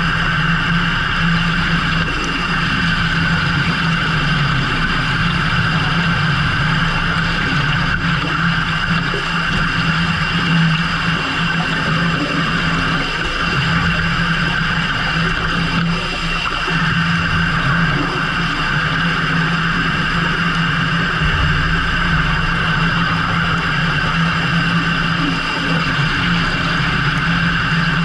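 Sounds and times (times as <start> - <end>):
boat engine low hum: 0.0 - 28.0
machinery high whine: 0.0 - 28.0.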